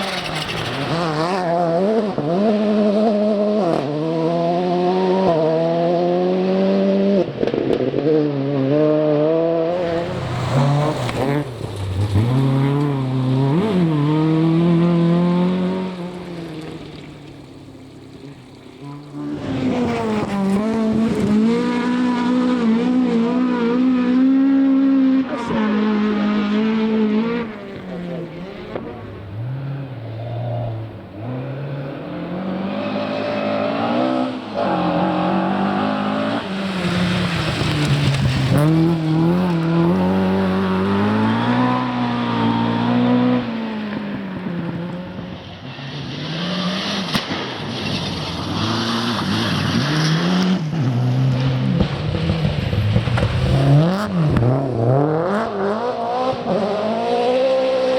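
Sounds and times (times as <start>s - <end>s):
rally car engine revving: 0.0s - 17.5s, 18.1s - 57.9s.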